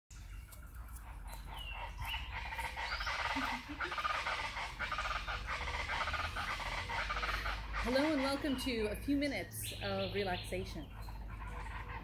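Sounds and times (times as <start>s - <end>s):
birds chirping and chattering: 0.1s - 12.0s
steady low rumble: 0.1s - 12.0s.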